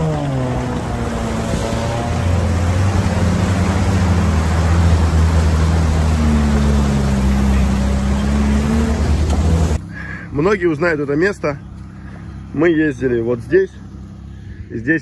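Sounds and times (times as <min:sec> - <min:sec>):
car engine pulling at low revs: 0:00.0 - 0:15.0
tyres churning through mud and water: 0:00.0 - 0:15.0.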